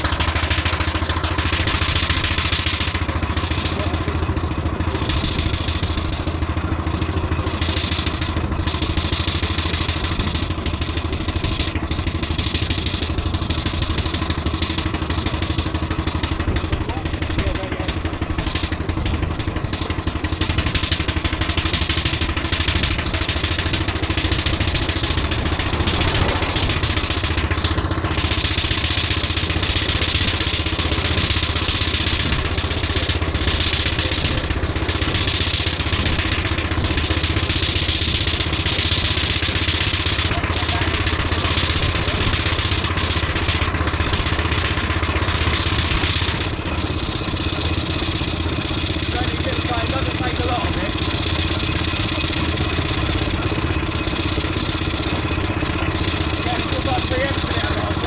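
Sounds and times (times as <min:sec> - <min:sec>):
steam traction engine running: 0:00.0 - 0:58.0.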